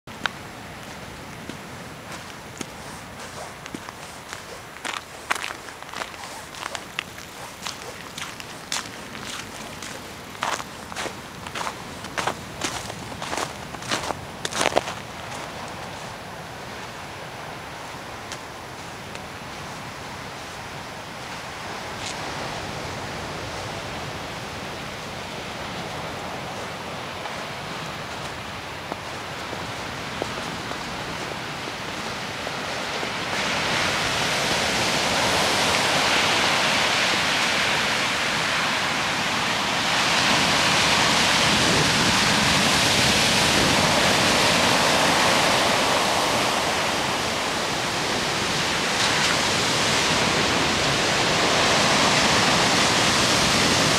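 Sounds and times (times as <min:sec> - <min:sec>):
ocean surf breaking: 0:00.1 - 0:53.9.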